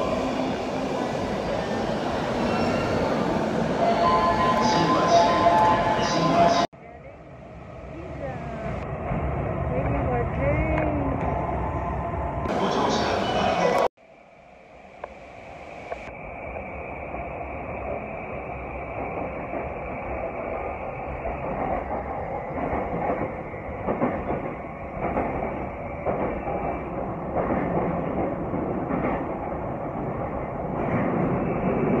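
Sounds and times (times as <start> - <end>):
subway train rumble and rattle: 0.0 - 32.0.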